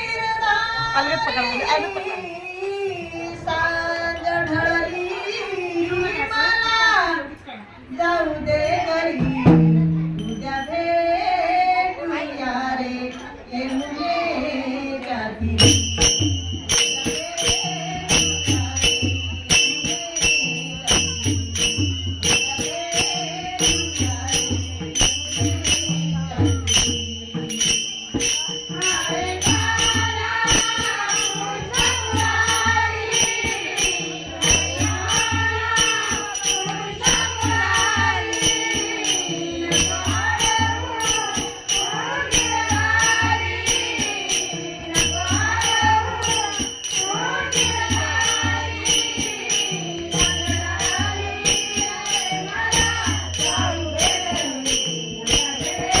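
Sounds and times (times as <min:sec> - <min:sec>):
jingling percussion beat: 0:00.0 - 0:06.9, 0:08.3 - 0:56.0
woman singing: 0:00.0 - 0:09.6, 0:10.2 - 0:16.0, 0:16.8 - 0:56.0.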